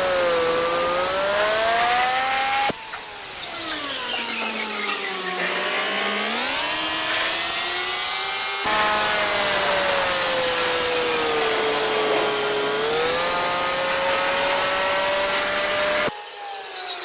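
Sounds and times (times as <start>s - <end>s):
car wash motor whine: 0.0s - 16.1s
loud hiss of car wash: 0.0s - 16.1s.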